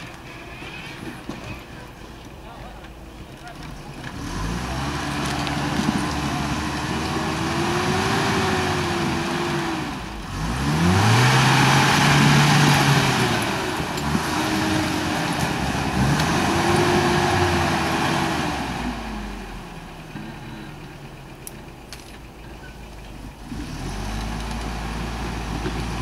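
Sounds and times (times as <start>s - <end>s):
truck engine revving: 3.5s - 26.0s.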